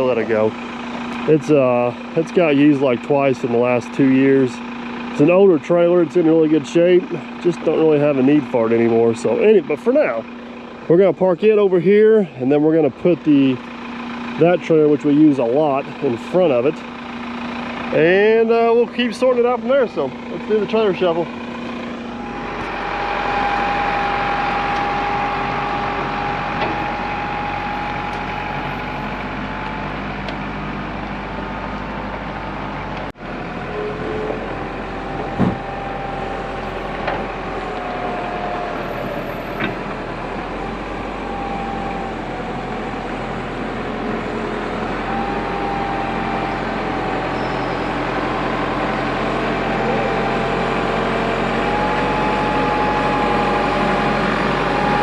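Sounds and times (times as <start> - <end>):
diesel engine running: 0.0 - 55.0
engine whine: 0.0 - 55.0.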